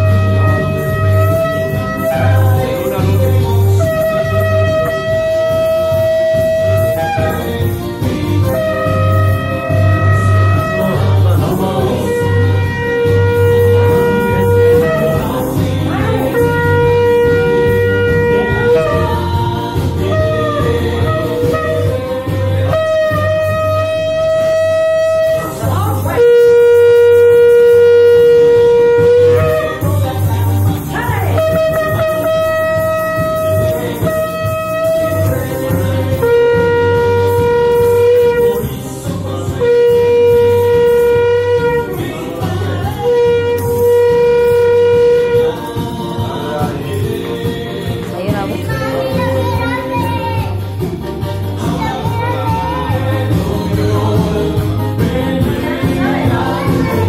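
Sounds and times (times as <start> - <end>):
shofar blasts: 0.0 - 45.8.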